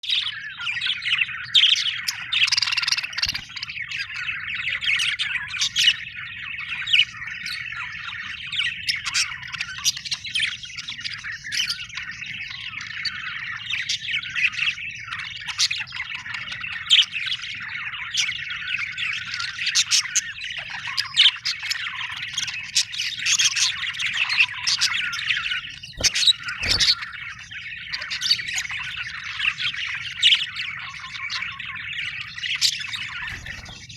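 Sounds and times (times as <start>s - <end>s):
budgerigars chattering: 0.1s - 33.9s.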